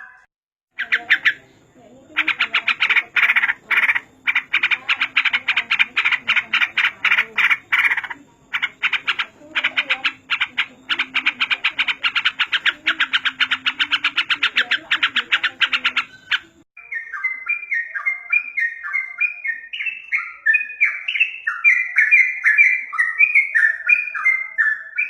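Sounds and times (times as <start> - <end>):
bird chattering song: 0.0 - 25.0.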